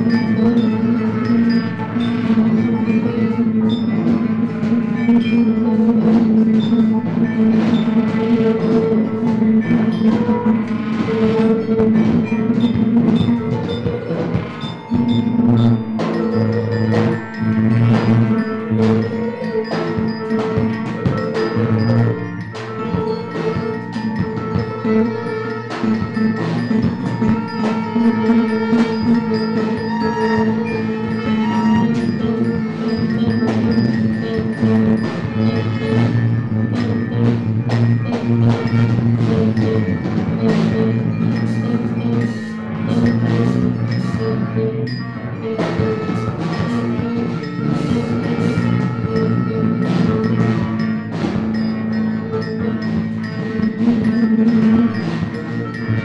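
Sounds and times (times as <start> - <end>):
bass clarinet: 0.0 - 56.0
bell-like struck notes: 0.0 - 56.0
bowed double bass: 0.0 - 56.0
drums: 0.0 - 56.0
electric guitar: 0.0 - 56.0
held drone notes: 0.0 - 56.0.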